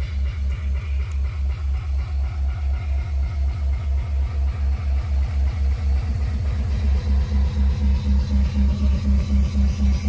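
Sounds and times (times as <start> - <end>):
deep kick drum pulsing: 0.0 - 10.0.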